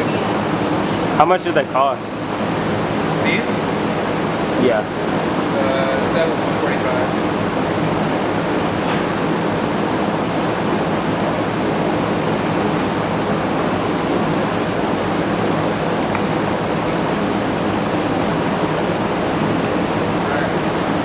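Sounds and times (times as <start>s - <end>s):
rushing air with low hum: 2.2s - 21.0s.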